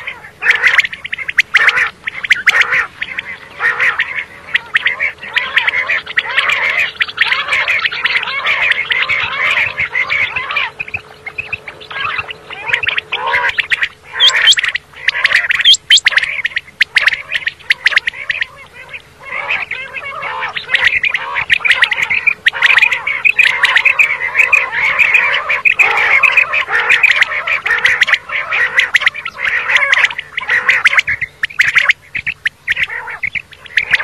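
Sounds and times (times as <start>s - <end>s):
faint steady hum: 0.0s - 34.0s
quail calling: 0.0s - 34.0s.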